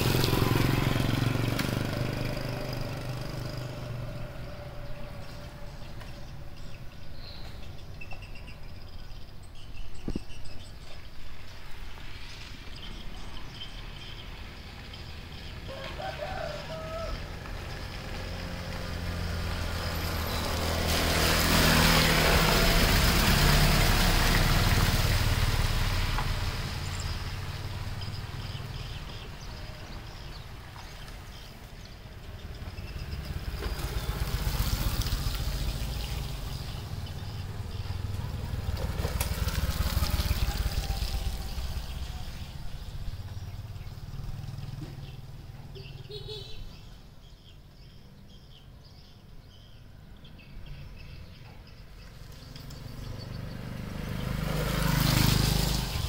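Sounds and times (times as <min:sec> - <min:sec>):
motor vehicles passing: 0:00.0 - 0:56.0.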